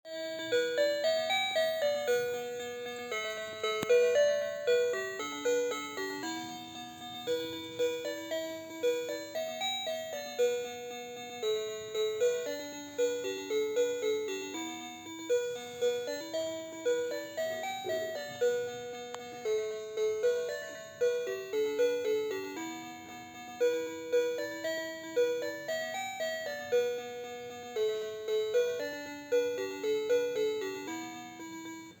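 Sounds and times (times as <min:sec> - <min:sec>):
electronic bell-like melody: 0:00.1 - 0:32.0.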